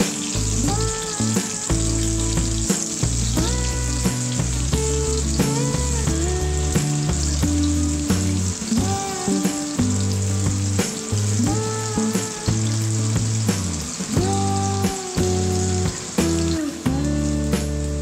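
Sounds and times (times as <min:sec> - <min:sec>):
background music with bass line: 0:00.0 - 0:18.0
potatoes sizzling in oil: 0:00.0 - 0:18.0.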